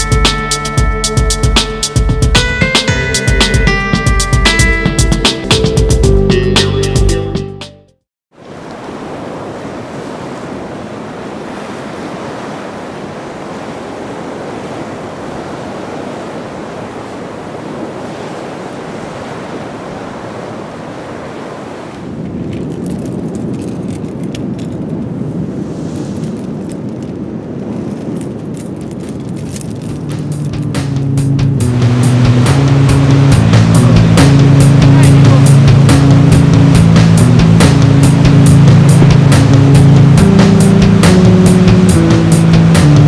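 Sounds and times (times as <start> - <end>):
surf breaking on rocks: 8.3 - 43.0
wind on microphone: 8.5 - 43.0.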